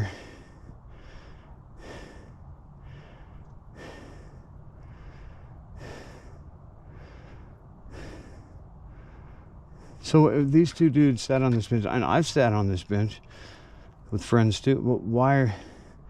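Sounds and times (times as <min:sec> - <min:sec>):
man breathing heavily: 0:00.0 - 0:11.6, 0:13.2 - 0:14.1, 0:15.4 - 0:16.0.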